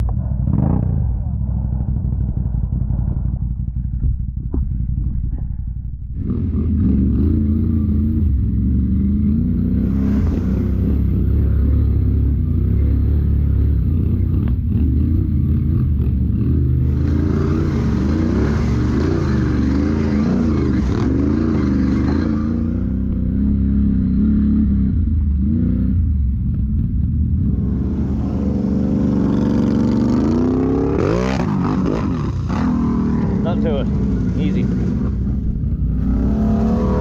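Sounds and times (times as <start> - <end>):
engine revving: 0.0 - 3.8, 6.1 - 37.0.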